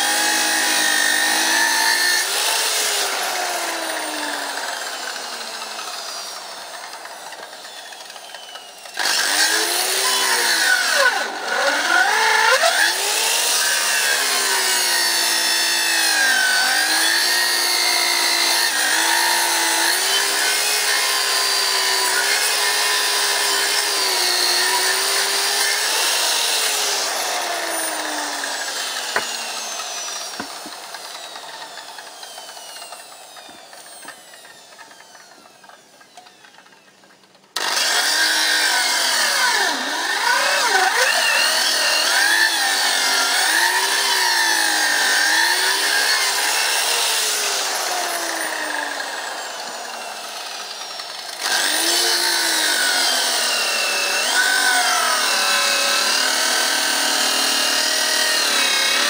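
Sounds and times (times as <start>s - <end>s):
electric saw cutting wood: 0.0s - 59.0s.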